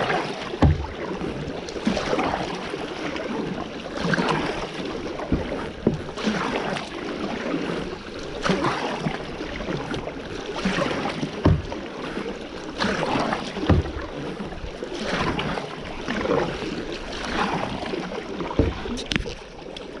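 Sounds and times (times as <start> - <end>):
paddle strokes splashing water: 0.0 - 20.0.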